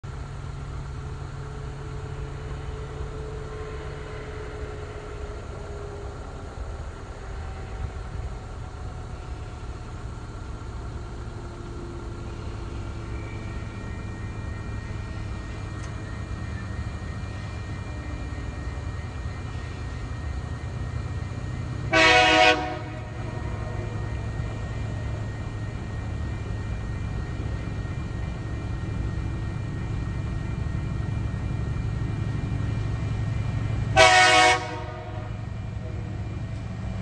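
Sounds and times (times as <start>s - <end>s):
distant diesel locomotive rumble: 0.0s - 37.0s.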